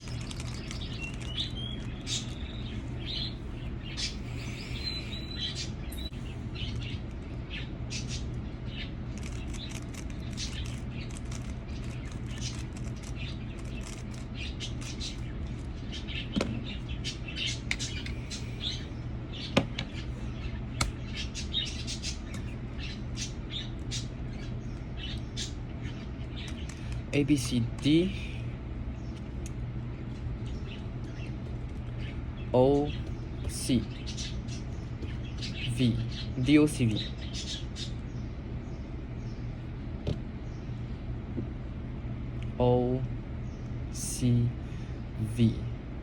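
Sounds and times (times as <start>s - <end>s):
small bird chirping: 0.0s - 39.6s
steady low hum: 0.0s - 46.0s.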